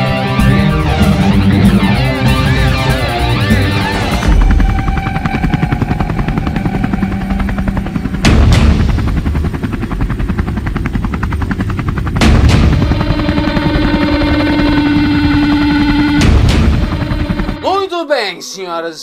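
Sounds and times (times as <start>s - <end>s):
helicopter rotor chopping: 0.0s - 18.0s.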